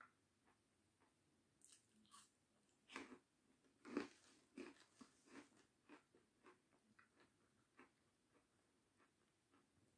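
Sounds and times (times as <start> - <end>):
meringue crunching while chewed: 0.4 - 9.8.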